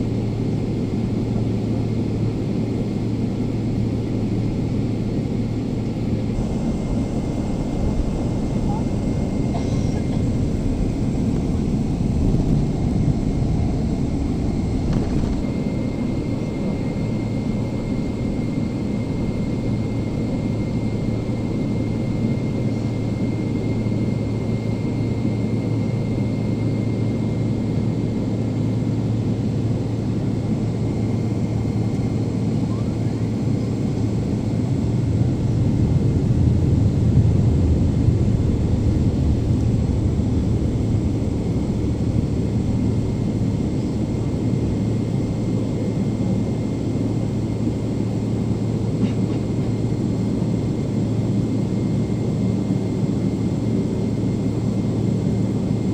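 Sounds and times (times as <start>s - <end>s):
roar of jet engines and airflow: 0.0s - 55.9s.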